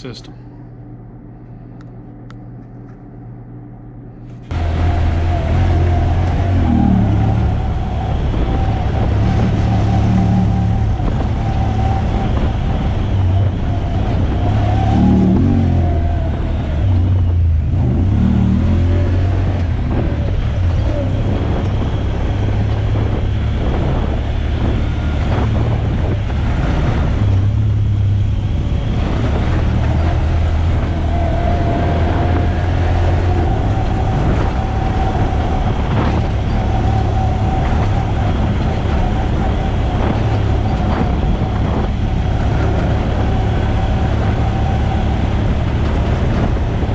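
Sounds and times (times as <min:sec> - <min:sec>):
off-road vehicle engine droning: 0:00.0 - 0:46.9
vehicle rattling: 0:04.2 - 0:46.9.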